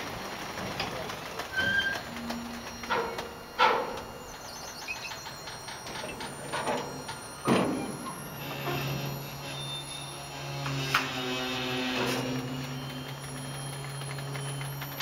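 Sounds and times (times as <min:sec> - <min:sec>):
metallic creaks and squeals: 0:01.4 - 0:15.0.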